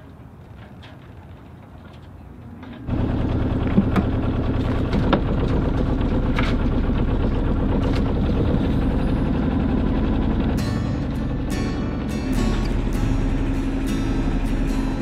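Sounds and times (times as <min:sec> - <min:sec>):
boat engine running: 0:01.1 - 0:15.0.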